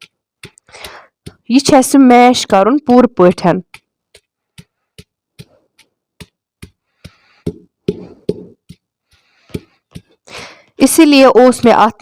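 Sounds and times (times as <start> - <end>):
masher pounding chicken: 0.0 - 12.0.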